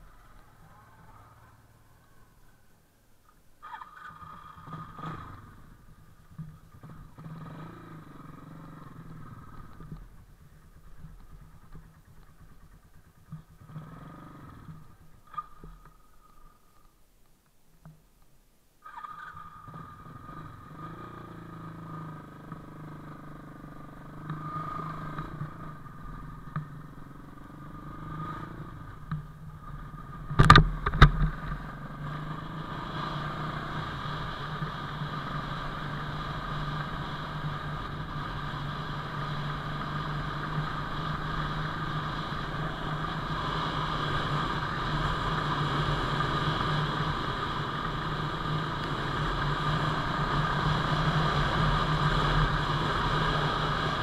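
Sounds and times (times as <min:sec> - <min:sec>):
motorcycle engine running: 0:03.6 - 0:16.9, 0:18.9 - 0:54.0.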